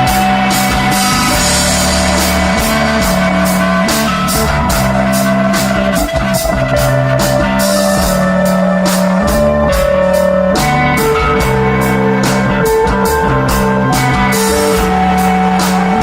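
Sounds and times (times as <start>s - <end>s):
bass guitar: 0.0s - 16.0s
drums with cymbal strokes: 0.0s - 16.0s
electric guitar: 0.0s - 16.0s.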